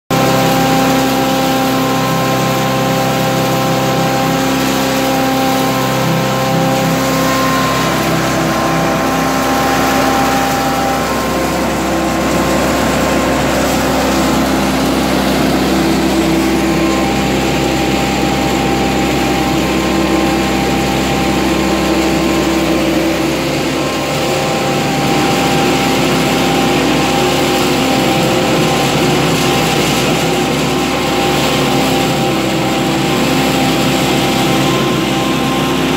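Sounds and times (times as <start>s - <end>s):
loud machinery hum: 0.1s - 35.9s.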